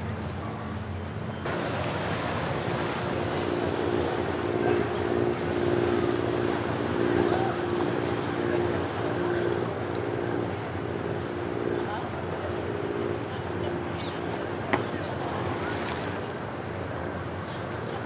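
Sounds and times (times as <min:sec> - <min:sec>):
motorboat engine humming: 0:00.0 - 0:18.0
water noise: 0:00.8 - 0:18.0.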